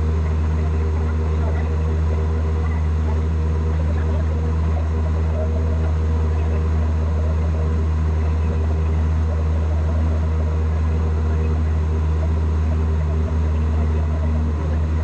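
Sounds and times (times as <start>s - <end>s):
airplane engine droning in cockpit: 0.0s - 15.0s.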